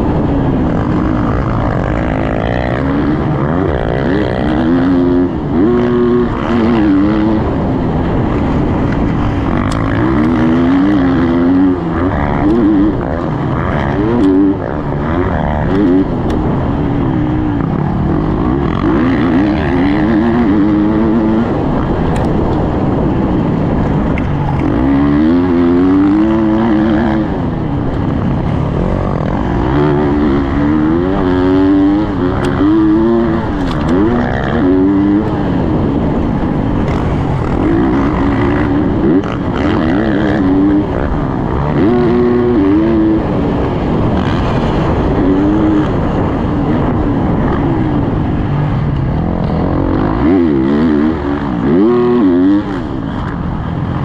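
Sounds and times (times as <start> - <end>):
motocross bike engine revving: 0.0 - 54.0
rush of wind: 0.0 - 54.0
track noise: 0.0 - 54.0.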